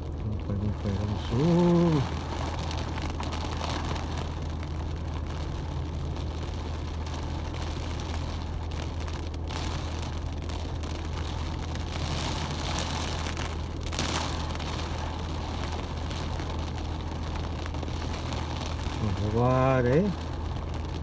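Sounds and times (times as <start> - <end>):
car engine idling: 0.0 - 21.0
heavy rain on windscreen: 0.0 - 21.0.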